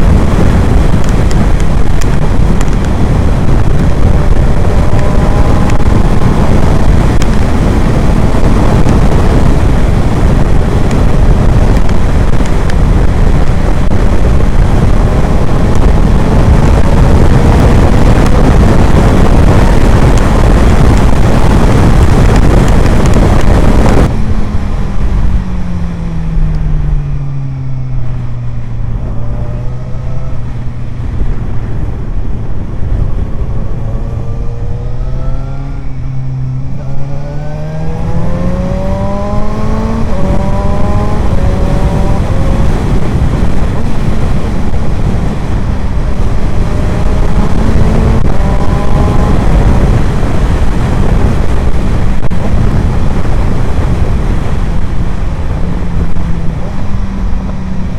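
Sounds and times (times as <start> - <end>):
motorcycle engine: 0.0 - 57.9
wind noise on microphone: 0.0 - 57.9.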